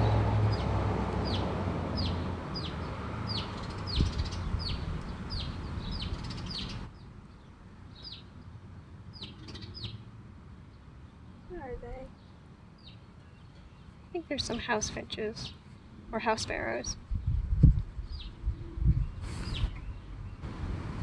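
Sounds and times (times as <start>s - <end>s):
small songbirds chirping: 0.0s - 20.5s.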